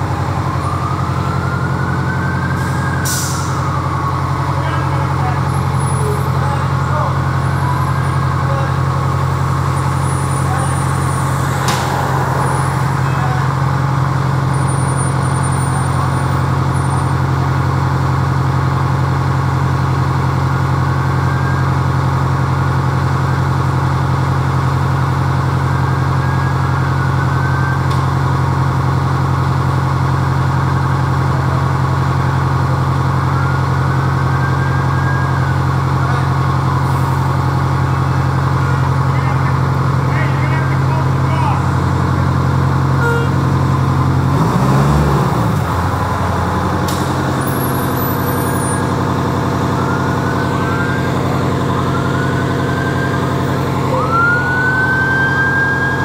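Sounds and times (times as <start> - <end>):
heavy vehicle engine idling: 0.0 - 56.0.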